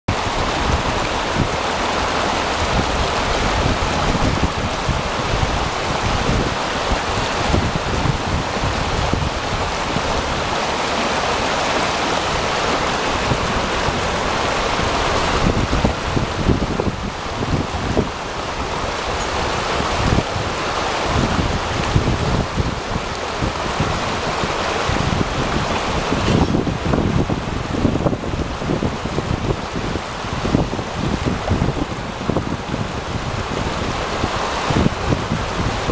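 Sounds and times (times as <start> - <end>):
river rushing over stones: 0.1 - 35.9
wind buffeting microphone: 0.1 - 35.9.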